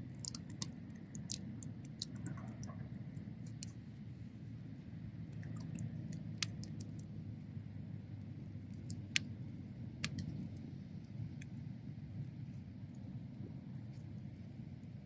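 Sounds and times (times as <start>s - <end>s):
fire crackling and popping: 0.0s - 3.9s, 5.2s - 7.4s, 8.0s - 15.0s.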